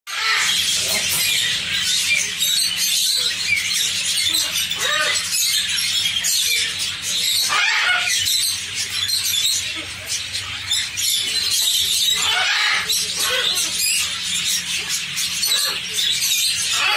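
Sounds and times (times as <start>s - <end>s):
bird squawk: 0.1s - 16.9s
birds chirping and chattering: 0.1s - 16.9s.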